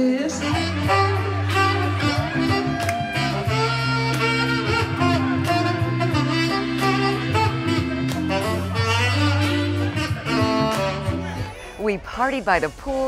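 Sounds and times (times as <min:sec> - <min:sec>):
band music with steady beat: 0:00.3 - 0:11.6.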